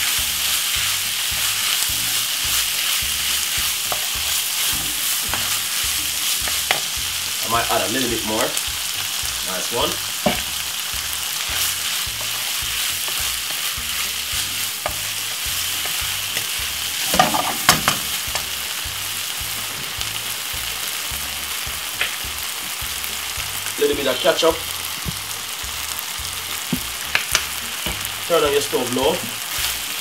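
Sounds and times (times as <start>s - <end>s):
meat sizzling in a frying pan: 0.0s - 30.0s.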